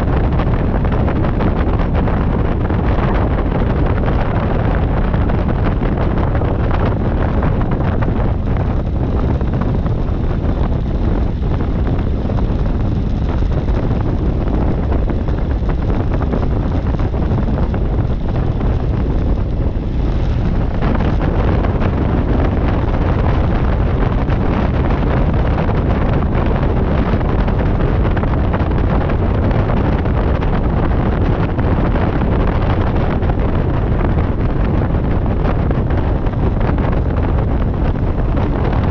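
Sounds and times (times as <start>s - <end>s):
light aircraft engine running: 0.0s - 38.9s
wind rumble on microphone: 0.0s - 38.9s.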